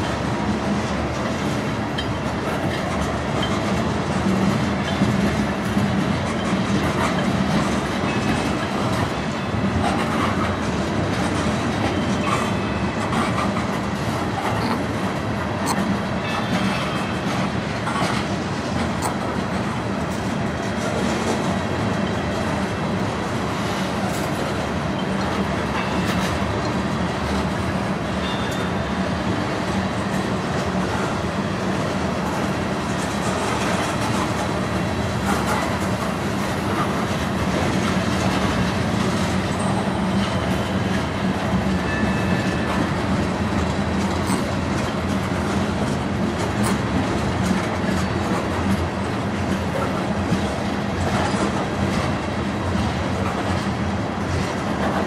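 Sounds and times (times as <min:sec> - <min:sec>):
clicking over rail joints: 0:00.0 - 0:28.8, 0:30.0 - 0:55.0
train wheels rumbling on rail: 0:00.0 - 0:55.0.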